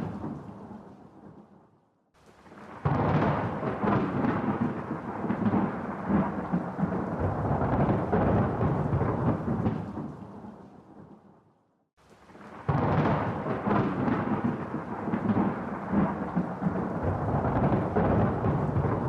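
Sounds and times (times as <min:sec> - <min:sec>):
thunder rumbling: 0:00.0 - 0:01.4, 0:02.4 - 0:11.2, 0:12.2 - 0:19.0.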